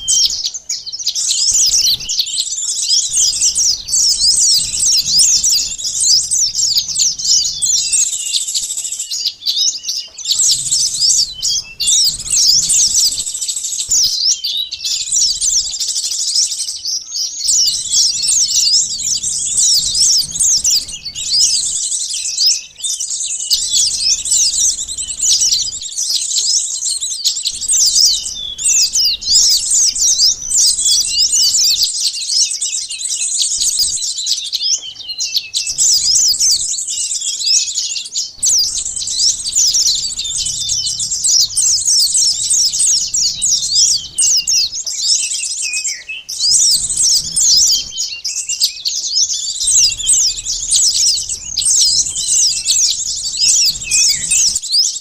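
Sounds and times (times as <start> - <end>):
sunbirds chirping and twittering: 0.0 - 55.0.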